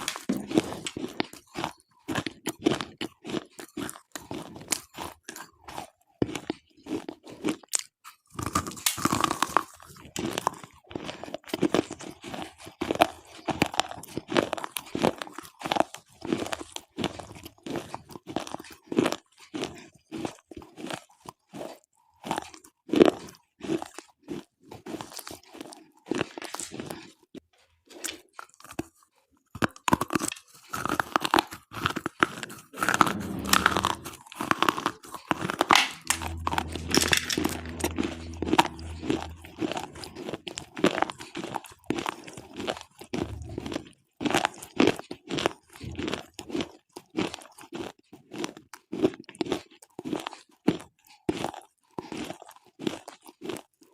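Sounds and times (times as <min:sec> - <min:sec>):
slate pencils crunching when chewed: 0:00.0 - 0:53.9.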